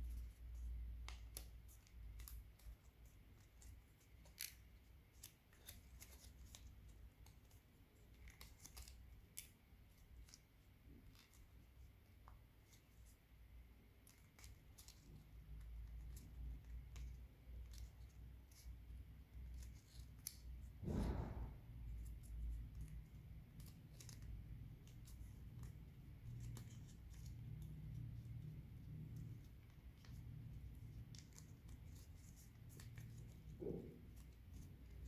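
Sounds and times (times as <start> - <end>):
paper being folded and creased: 0.0 - 35.0.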